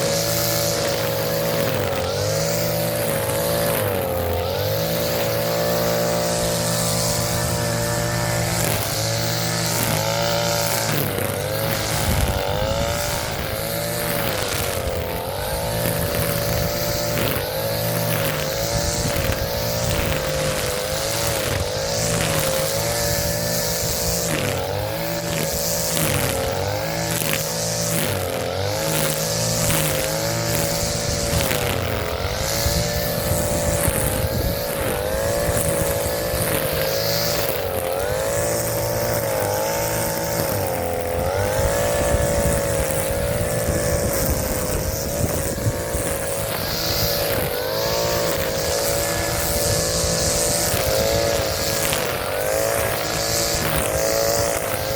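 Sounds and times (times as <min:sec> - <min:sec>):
string trimmer cutting grass: 0:00.0 - 0:54.9.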